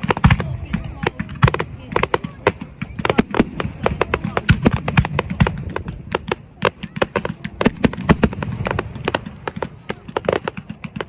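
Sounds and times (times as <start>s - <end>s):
firecrackers and fireworks banging: 0.0s - 11.0s.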